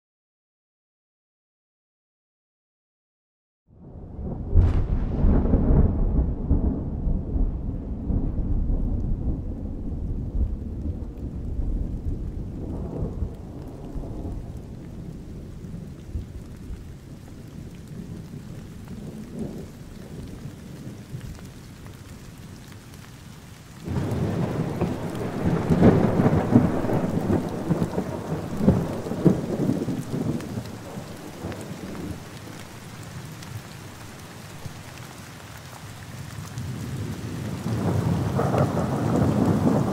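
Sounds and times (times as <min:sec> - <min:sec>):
rumble of thunder: 0:03.8 - 0:23.0, 0:23.8 - 0:34.0, 0:36.2 - 0:39.9
steady rain: 0:03.8 - 0:39.9.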